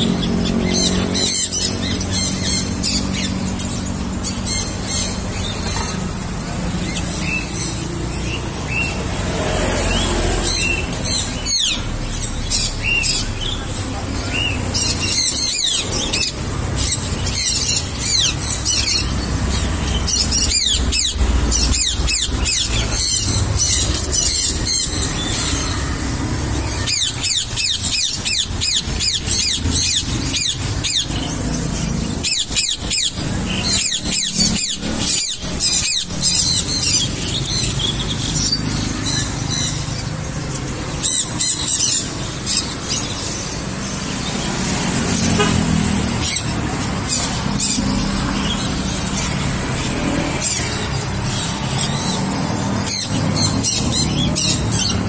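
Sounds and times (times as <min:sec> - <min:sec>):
parrots squealing: 0:00.0 - 0:55.0.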